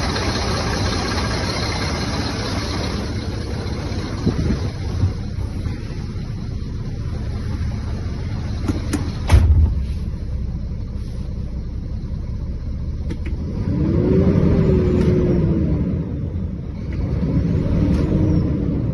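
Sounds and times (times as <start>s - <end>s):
diesel engine idling: 0.0s - 17.8s.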